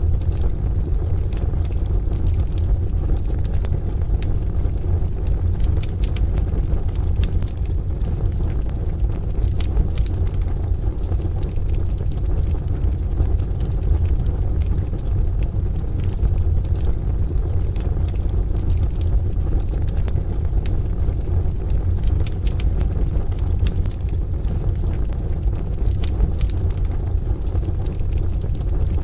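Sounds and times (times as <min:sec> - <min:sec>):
rain: 0:00.0 - 0:29.0
wood fire crackling in a stove: 0:00.0 - 0:29.0.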